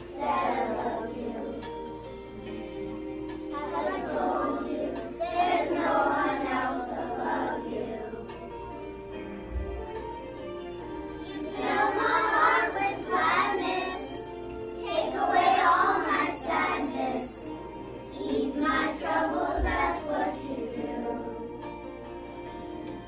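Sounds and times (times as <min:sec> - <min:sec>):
children singing together: 0:00.0 - 0:08.9, 0:11.1 - 0:22.2.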